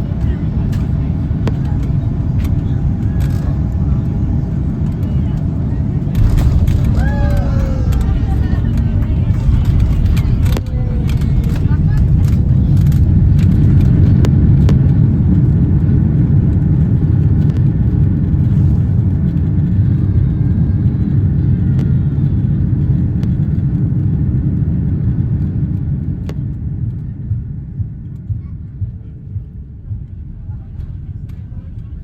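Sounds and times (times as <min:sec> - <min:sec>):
airliner low rumble: 0:00.0 - 0:32.0.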